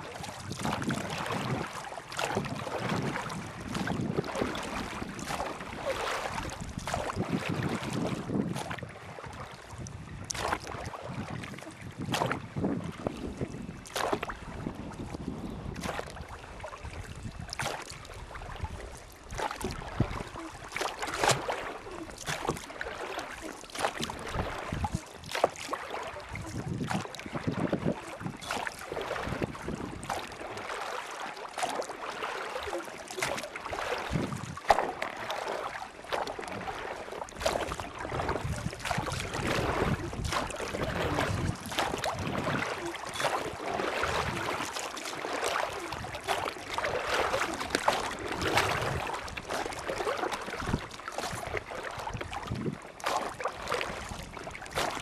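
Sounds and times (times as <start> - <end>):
wind on microphone: 0.0 - 30.7, 33.7 - 34.8, 37.4 - 44.7, 45.6 - 55.0
water splashing and sloshing: 0.0 - 55.0.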